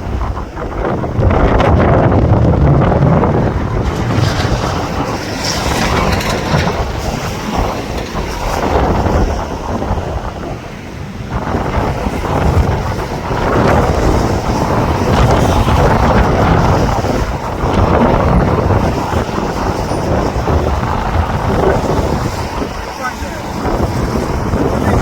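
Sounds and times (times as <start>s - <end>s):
wind blasting microphone: 0.0s - 25.0s.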